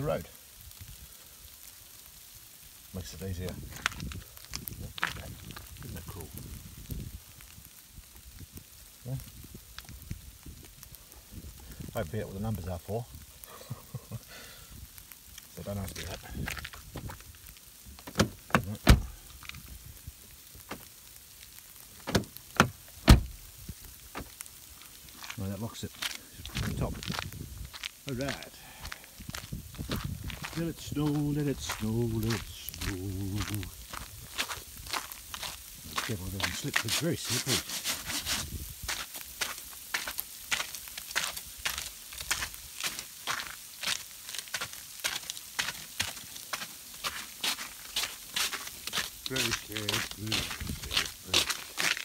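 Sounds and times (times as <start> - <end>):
wet snow hissing: 0.0 - 52.0.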